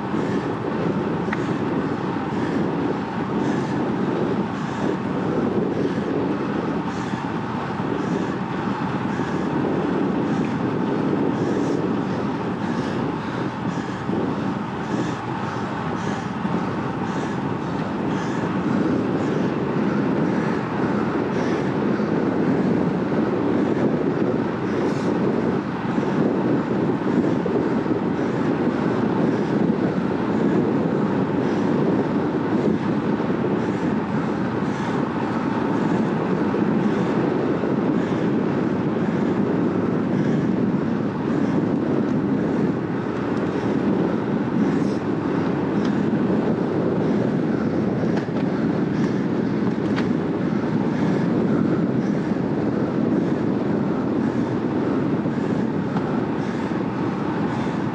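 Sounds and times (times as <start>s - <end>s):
bicycle tyres rolling on asphalt: 0.0s - 57.9s
wind on microphone: 0.0s - 57.9s.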